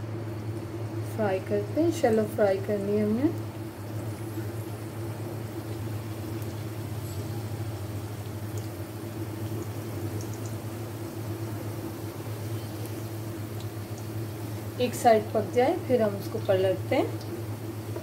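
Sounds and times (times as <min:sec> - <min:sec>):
low hum: 0:00.0 - 0:18.0
oil sizzling and bubbling: 0:00.0 - 0:18.0.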